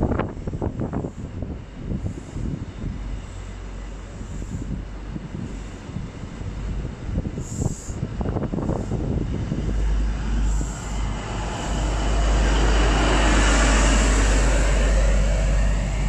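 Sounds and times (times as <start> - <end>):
diesel locomotive engine rumble and whine: 0.0 - 16.0.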